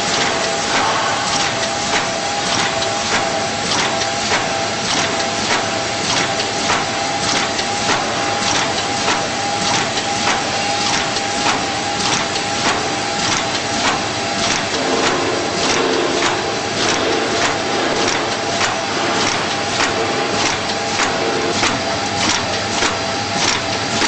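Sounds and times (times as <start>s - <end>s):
printer mechanism clicking: 0.1s - 24.0s.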